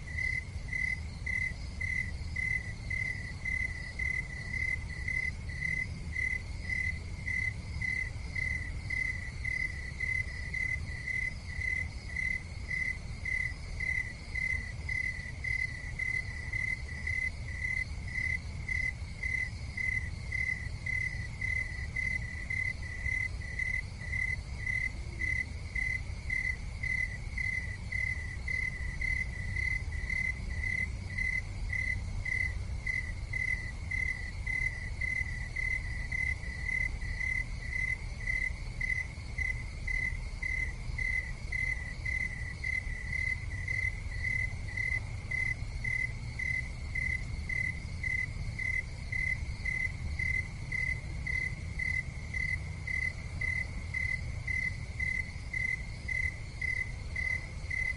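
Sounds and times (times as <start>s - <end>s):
cricket chirping: 0.0s - 57.9s.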